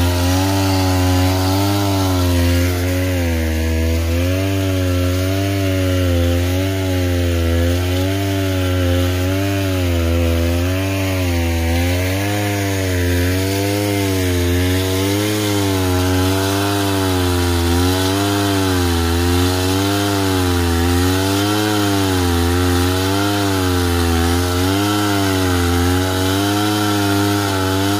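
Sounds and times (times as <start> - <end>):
chainsaw cutting log: 0.0 - 27.9.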